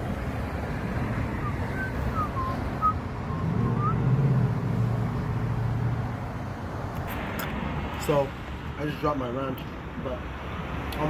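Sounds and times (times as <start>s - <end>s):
passing cars rumble: 0.0s - 11.0s
vehicle engine: 0.0s - 11.0s.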